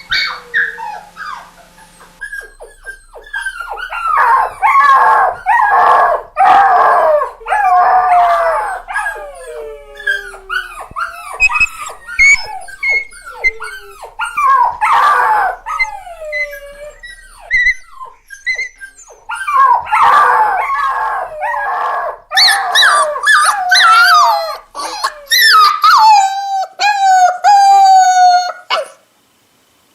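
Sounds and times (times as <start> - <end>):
puppies whimpering and crying: 0.0 - 29.0.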